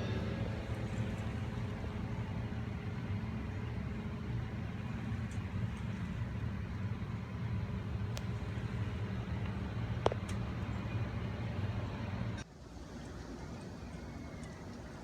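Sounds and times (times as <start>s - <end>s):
steady low rumble: 0.0s - 12.4s.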